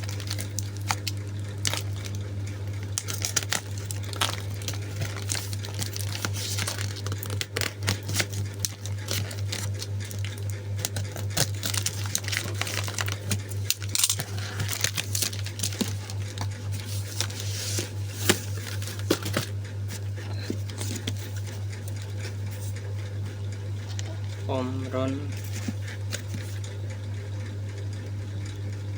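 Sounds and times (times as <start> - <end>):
packaging crinkling and rustling: 0.0 - 22.8, 25.3 - 26.7
steady low hum: 0.0 - 28.9.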